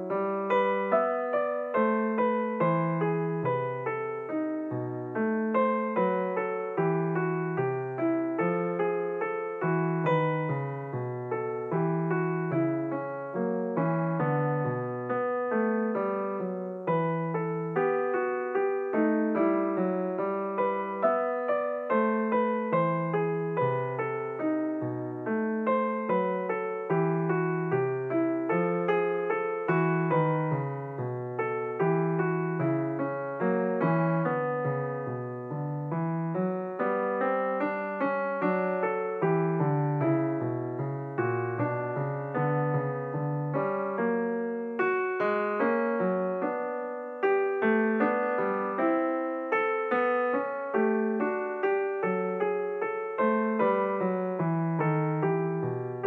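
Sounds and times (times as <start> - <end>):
background piano music: 0.0 - 56.0.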